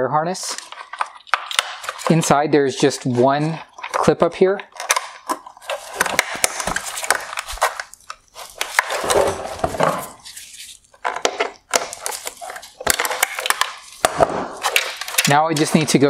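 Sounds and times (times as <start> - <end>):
wires rustling: 0.4 - 16.0.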